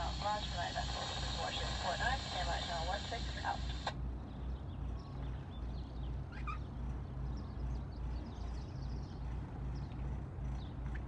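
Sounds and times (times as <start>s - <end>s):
birds chirping: 0.0s - 11.0s
boat engine idling: 0.0s - 11.0s.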